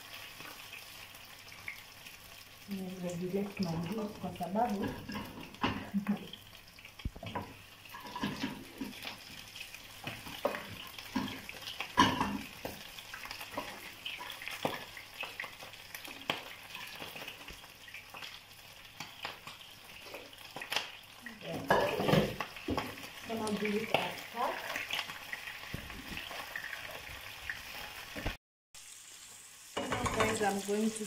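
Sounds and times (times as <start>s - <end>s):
chicken and onions sizzling in oil: 0.0s - 31.0s.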